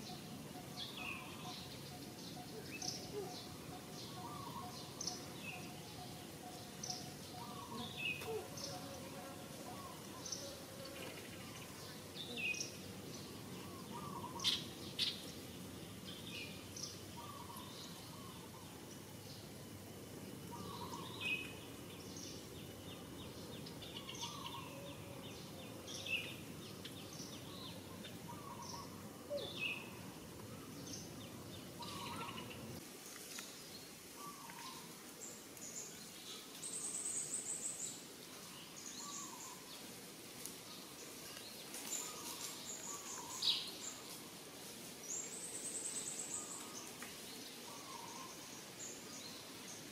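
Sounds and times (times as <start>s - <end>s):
birds chirping: 0.0s - 9.1s, 9.7s - 32.8s, 33.7s - 39.9s, 40.7s - 44.2s
steady low background noise: 0.0s - 49.9s.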